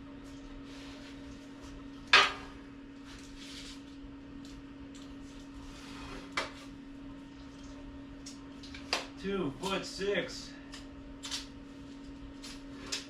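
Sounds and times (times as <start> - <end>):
heater humming: 0.0 - 13.0.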